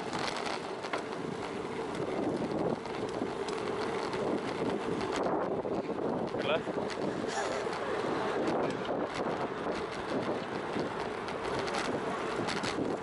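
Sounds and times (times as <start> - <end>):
bicycle riding noise: 0.0 - 13.0
wind rushing over microphone: 0.0 - 13.0.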